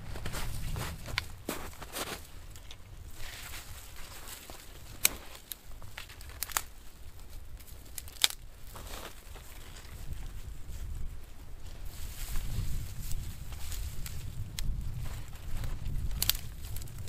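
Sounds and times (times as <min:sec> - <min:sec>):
twigs crinkling and snapping in fire: 0:00.1 - 0:17.0.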